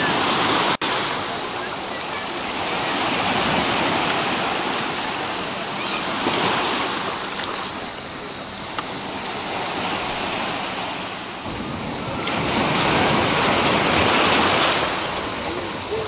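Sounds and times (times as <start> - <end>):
waves washing over pebbles: 0.0 - 16.0.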